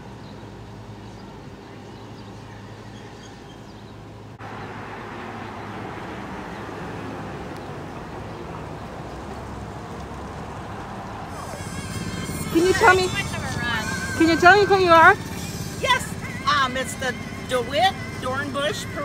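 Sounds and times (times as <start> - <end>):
low street hum and hiss: 0.0 - 19.0.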